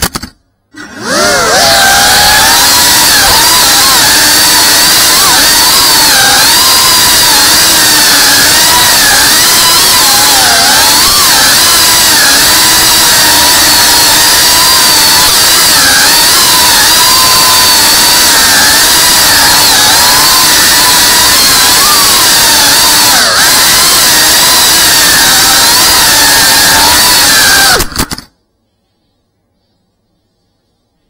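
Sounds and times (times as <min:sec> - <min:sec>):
quadcopter motors whining: 0:00.8 - 0:28.3.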